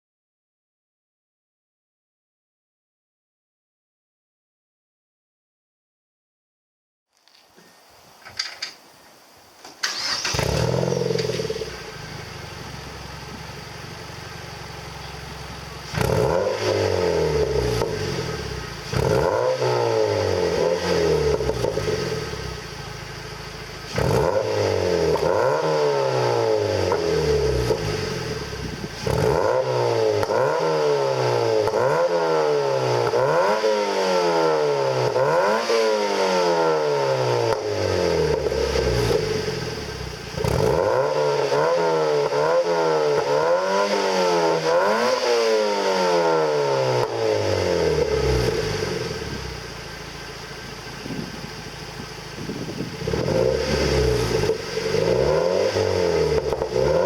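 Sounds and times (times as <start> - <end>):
car engine starting: 9.7 - 57.0
car engine revving: 9.8 - 57.0.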